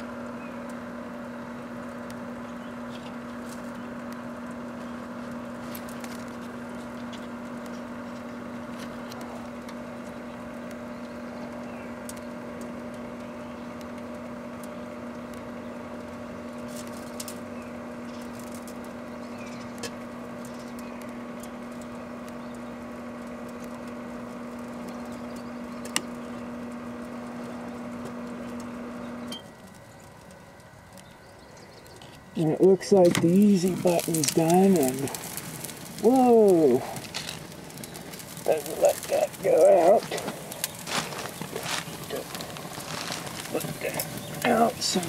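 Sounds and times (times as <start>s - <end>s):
burning plastic popping: 0.0s - 45.0s
microwave oven humming: 0.0s - 45.0s.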